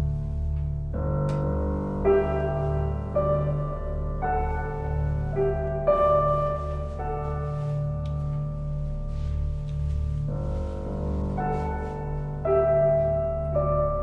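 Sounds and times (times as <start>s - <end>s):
soft piano chords: 0.0s - 14.0s
steady low drone: 0.0s - 14.0s.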